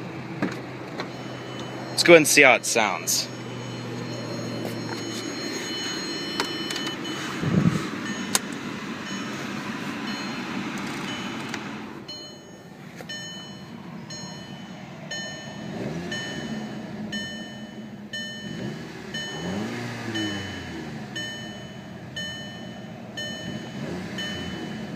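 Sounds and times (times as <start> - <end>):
car engine revving: 0.0 - 24.9
electronic warning chime: 1.1 - 24.9.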